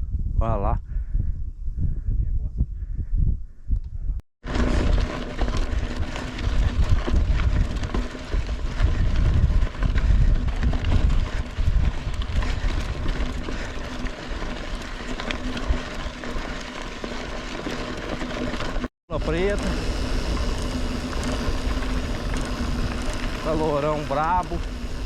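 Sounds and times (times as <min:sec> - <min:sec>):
wind buffeting microphone: 0:00.0 - 0:16.7, 0:19.2 - 0:25.0
bike clicks and rattles: 0:04.5 - 0:25.0.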